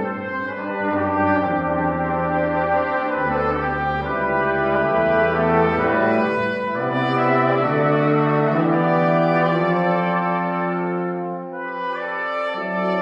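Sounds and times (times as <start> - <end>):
brass quintet playing chords: 0.0 - 13.0.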